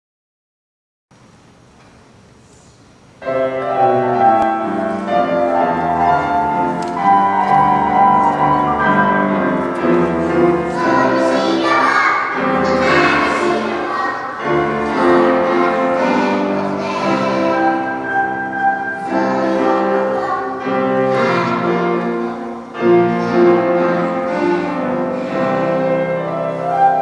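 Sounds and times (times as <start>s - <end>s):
children's choir singing: 3.2s - 27.0s.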